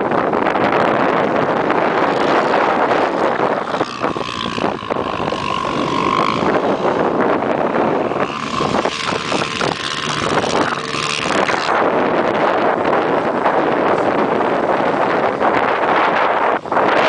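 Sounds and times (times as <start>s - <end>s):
quad bike engines whining: 0.0s - 17.0s
wind noise on microphone: 0.0s - 17.0s.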